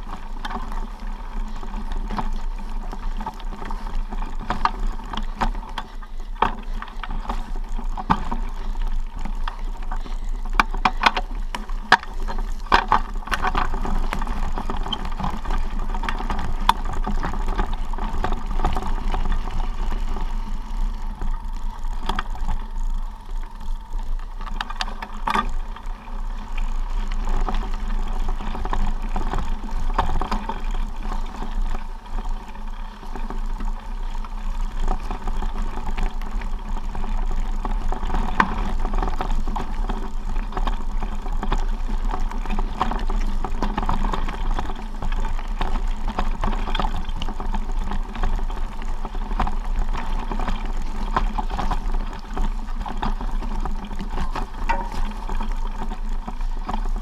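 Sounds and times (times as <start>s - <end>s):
bike rattles and knocks: 0.0s - 57.0s
bike tyres crunching over gravel: 0.0s - 57.0s.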